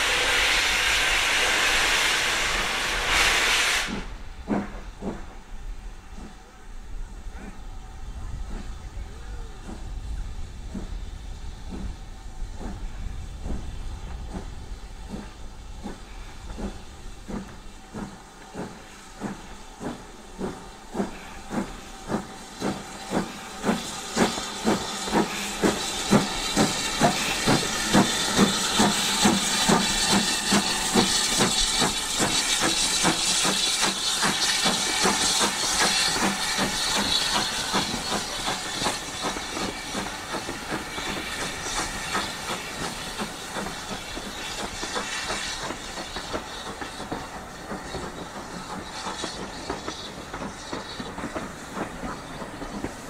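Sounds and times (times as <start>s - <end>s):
steam hissing: 0.0s - 53.0s
steam locomotive chuffing: 0.0s - 53.0s.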